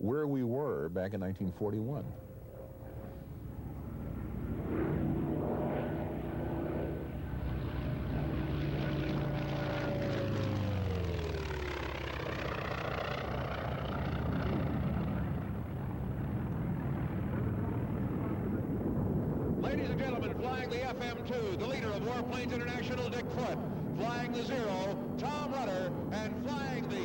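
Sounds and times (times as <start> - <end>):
propeller plane engine drone flying past: 0.8 - 27.0.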